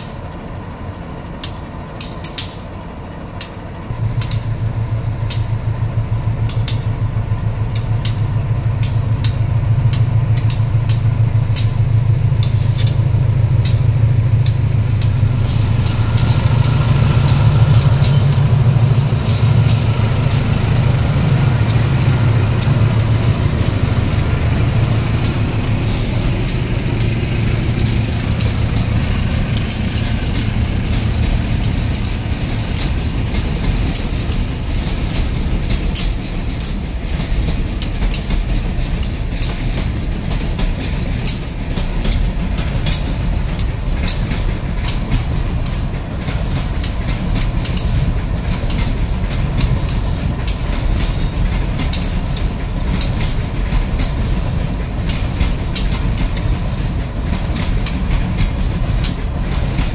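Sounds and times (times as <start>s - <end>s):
train rolling rumble: 0.0s - 59.9s
wheels clattering over rail joints: 7.7s - 59.9s.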